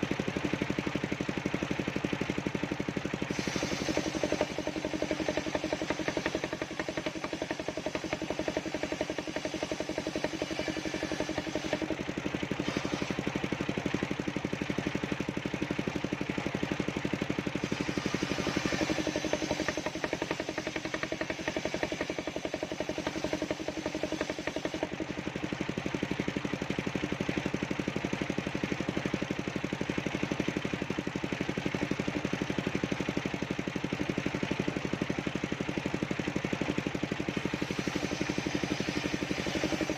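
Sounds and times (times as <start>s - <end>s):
engine-driven circular sawmill running: 0.0s - 39.9s.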